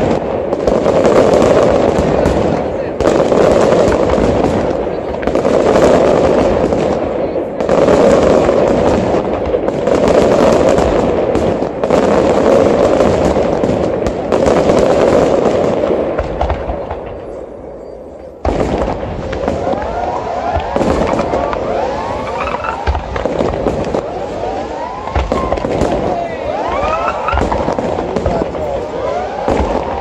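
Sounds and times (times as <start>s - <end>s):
firework shell bursts and crackle: 0.0s - 30.0s
whistling fireworks: 0.0s - 30.0s.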